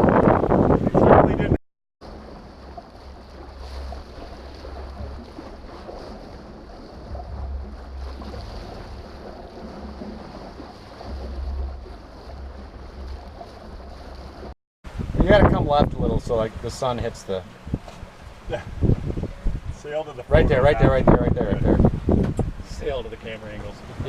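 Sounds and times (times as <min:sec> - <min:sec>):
waves rushing along hull: 0:00.0 - 0:24.0
wind buffeting microphone: 0:00.0 - 0:24.0.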